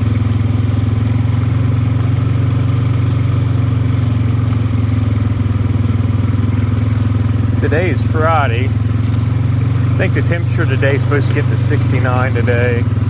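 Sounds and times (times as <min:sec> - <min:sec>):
atv engine droning: 0:00.0 - 0:13.0.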